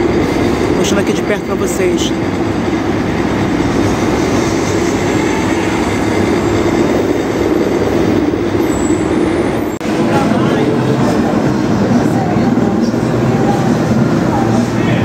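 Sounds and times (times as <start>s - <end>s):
helicopter drone: 0.0s - 15.0s.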